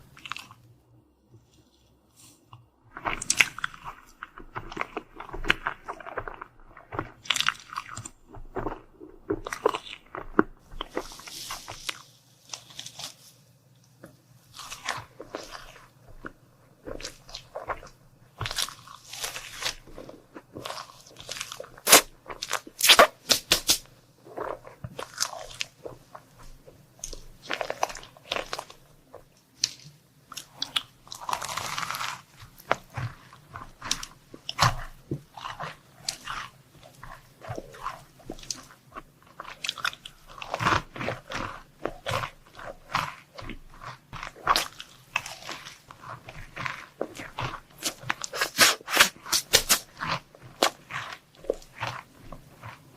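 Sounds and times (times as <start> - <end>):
crunchy chewing: 0.0 - 0.7, 1.4 - 52.9.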